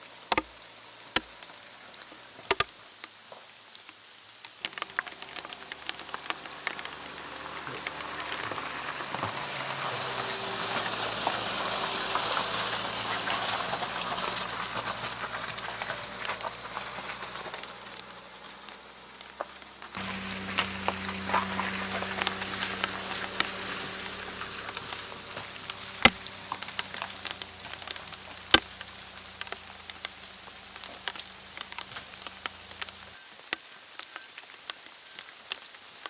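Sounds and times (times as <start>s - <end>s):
loud single raindrops: 0.0s - 34.3s
rain falling in a forest: 0.0s - 36.0s.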